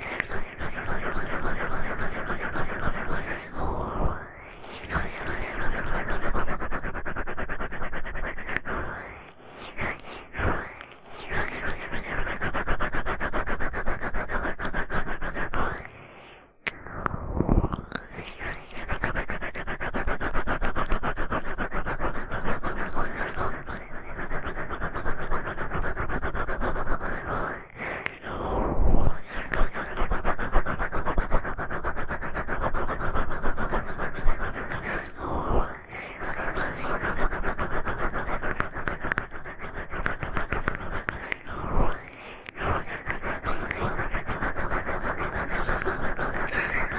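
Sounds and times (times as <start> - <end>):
ear pick scratching microphone: 0.0 - 46.9.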